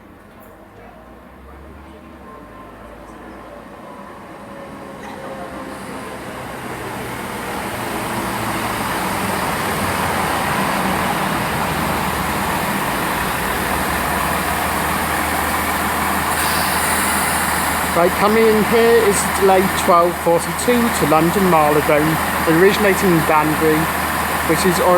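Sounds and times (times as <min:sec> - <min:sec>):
diesel train approaching: 0:00.0 - 0:24.9.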